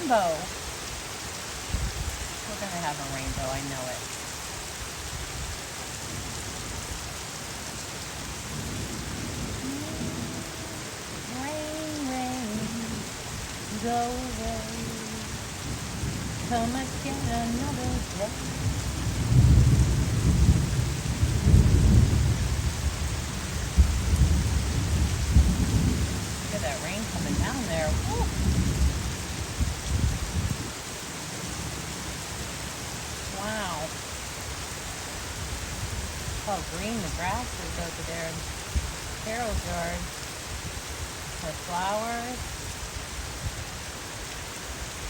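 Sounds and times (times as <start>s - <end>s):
rain falling steadily: 0.0s - 45.0s
low rumble of thunder: 5.0s - 41.4s.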